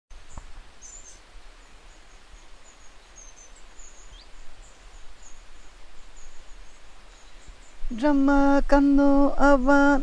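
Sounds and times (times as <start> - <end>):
faint high-pitched chirps: 0.2 - 8.7.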